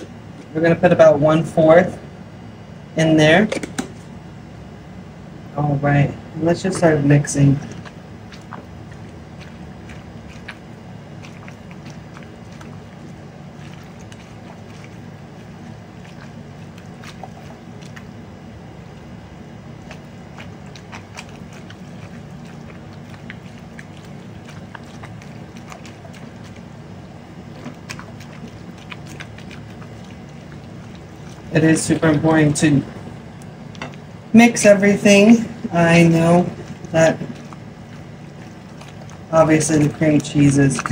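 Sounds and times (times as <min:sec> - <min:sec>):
steady low hum: 0:00.0 - 0:40.9
spatula squishing wet mixture: 0:05.6 - 0:40.9.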